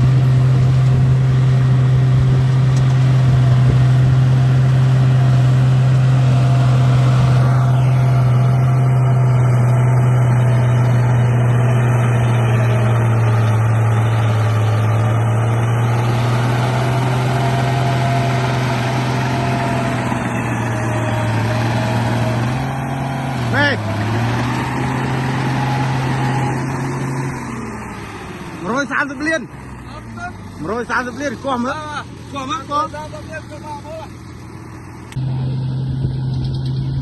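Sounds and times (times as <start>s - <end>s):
engine droning steadily: 0.0s - 37.0s.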